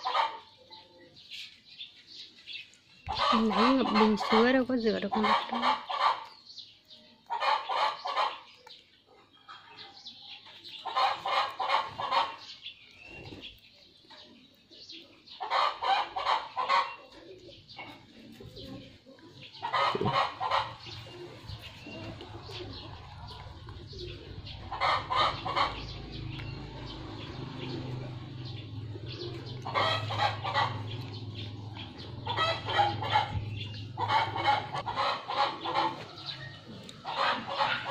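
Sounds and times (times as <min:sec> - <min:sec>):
chickens clucking: 0:00.0 - 0:37.9.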